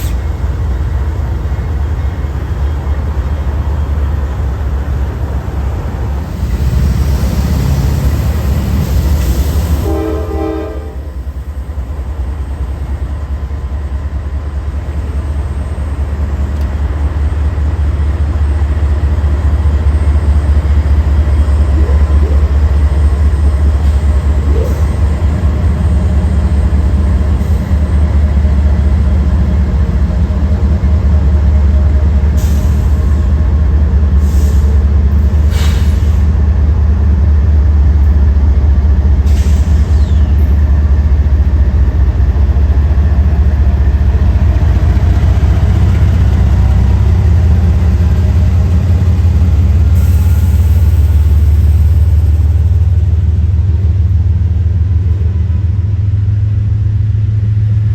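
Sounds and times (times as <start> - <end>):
freight train rumbling past: 0.0 - 57.9.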